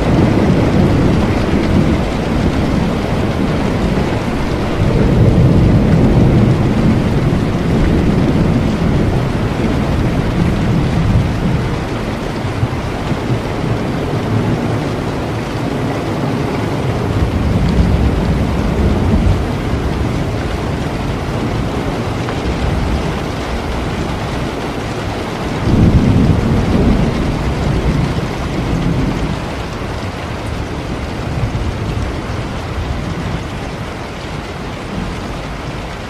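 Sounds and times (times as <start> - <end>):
heavy rain: 0.0 - 36.0
rolling thunder: 0.0 - 36.0.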